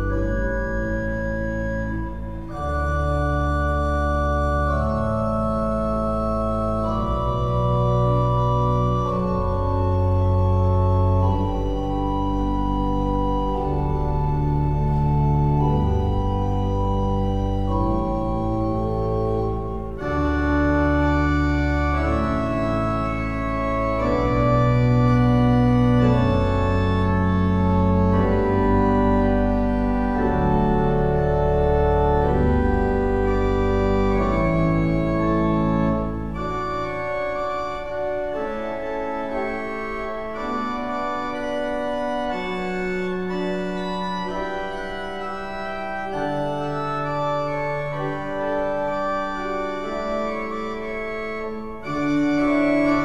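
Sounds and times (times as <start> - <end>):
deep organ bass notes: 0.0 - 53.0
pipe organ chords: 0.0 - 53.0.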